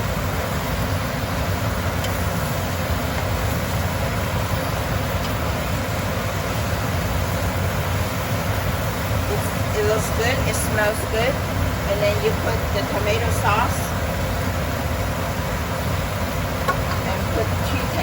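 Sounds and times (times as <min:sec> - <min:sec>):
low rumbling noise: 0:00.0 - 0:18.0.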